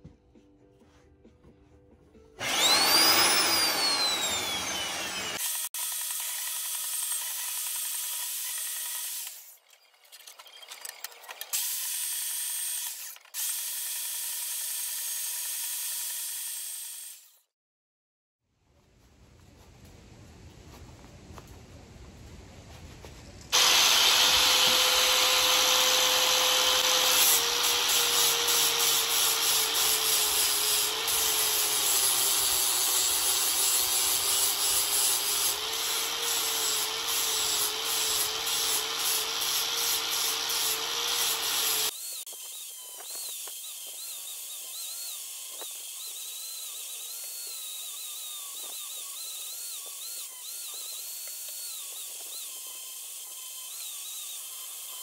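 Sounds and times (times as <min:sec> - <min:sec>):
angle grinder grinding steel: 0:02.4 - 0:17.4, 0:23.5 - 0:55.0.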